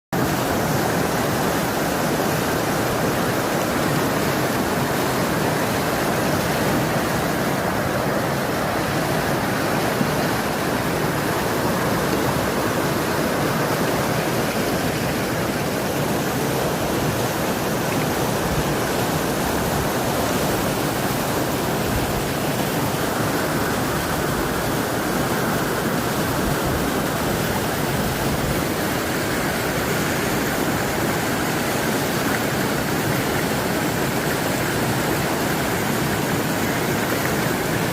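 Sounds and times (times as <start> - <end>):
river water rushing: 0.2 - 37.9.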